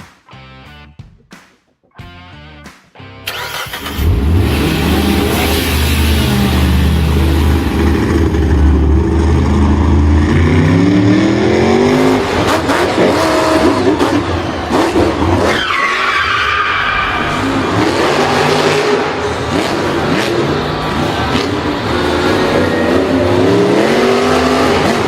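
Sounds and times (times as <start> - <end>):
vehicle engines revving: 3.2 - 25.0
tyres skidding: 3.3 - 25.0.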